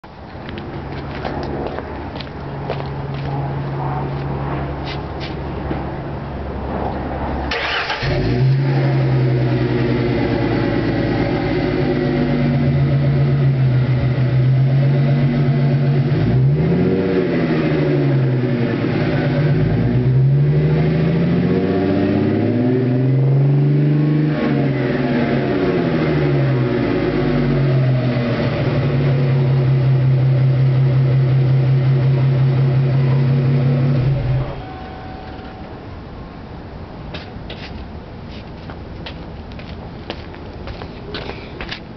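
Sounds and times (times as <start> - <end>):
car engine idling and revving: 0.0 - 35.8.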